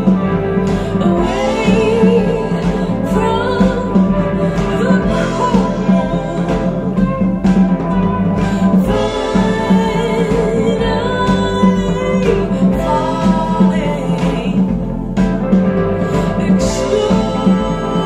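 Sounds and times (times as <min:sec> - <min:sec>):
guitar: 0:00.0 - 0:18.0
woman singing: 0:00.0 - 0:18.0.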